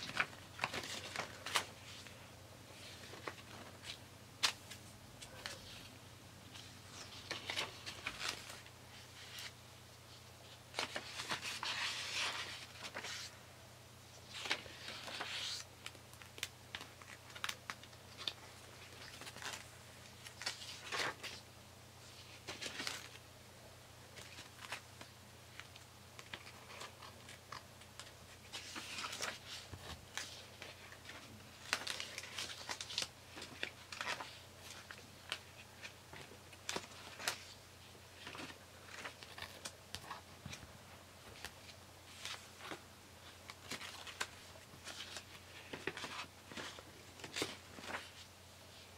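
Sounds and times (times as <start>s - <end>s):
paper pages turning and rustling: 0.0s - 5.9s, 6.5s - 9.6s, 10.4s - 13.3s, 14.2s - 21.4s, 22.1s - 23.2s, 24.2s - 48.9s.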